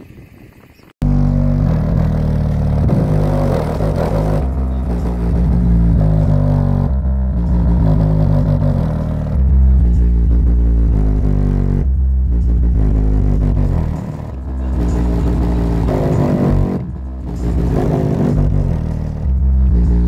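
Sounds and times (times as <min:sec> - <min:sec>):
bass-heavy music through subwoofers: 0:01.0 - 0:20.0.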